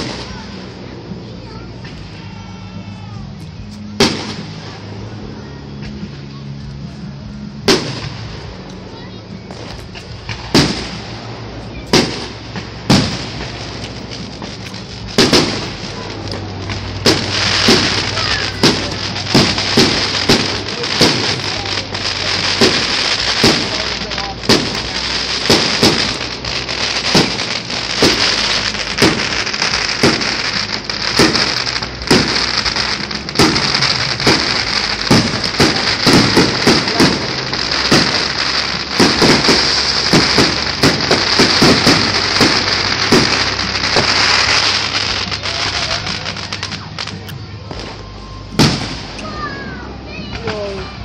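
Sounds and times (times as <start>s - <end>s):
fireworks bursting with sharp bangs: 0.0s - 51.0s
fireworks crackling hiss: 0.0s - 51.0s.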